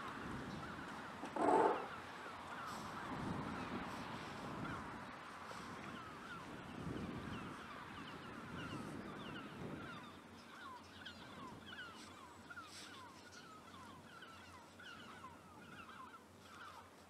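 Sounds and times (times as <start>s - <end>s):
flock of birds calling: 0.0s - 3.8s, 5.5s - 16.9s.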